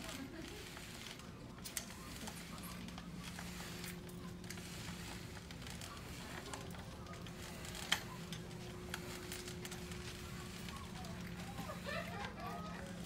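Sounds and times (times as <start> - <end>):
low room hum: 0.0 - 13.0
walker taps and clicks: 0.0 - 13.0.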